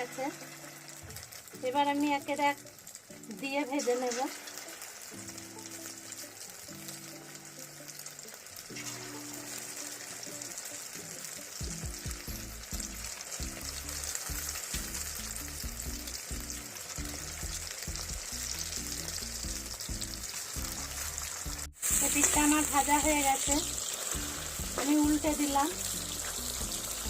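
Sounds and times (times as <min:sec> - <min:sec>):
chicken sizzling in deep fryer oil: 0:00.0 - 0:27.0.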